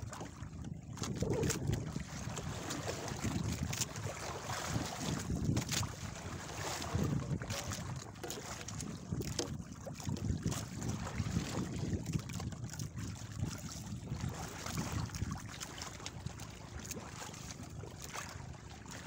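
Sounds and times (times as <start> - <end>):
water lapping against boat hull: 0.0 - 19.0
wind buffeting microphone: 0.0 - 19.0.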